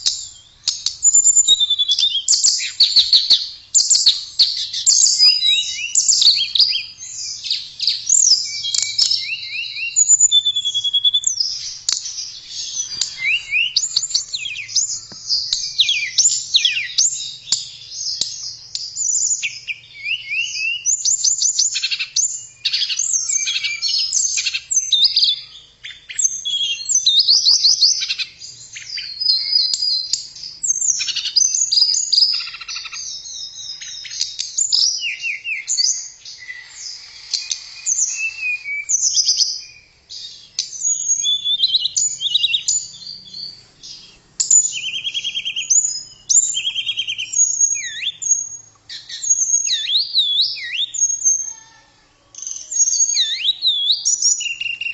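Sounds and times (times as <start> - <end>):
songbird singing: 0.0 - 54.9.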